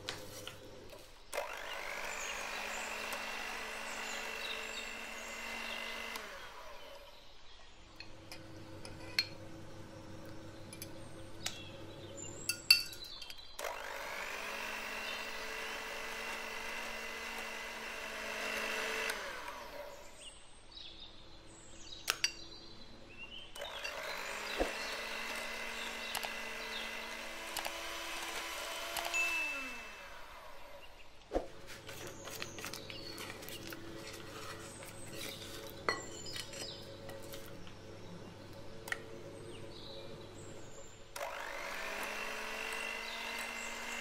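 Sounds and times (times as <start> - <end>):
electric hand mixer running: 0.0 - 7.2, 8.0 - 12.6, 13.6 - 20.3, 22.8 - 44.0.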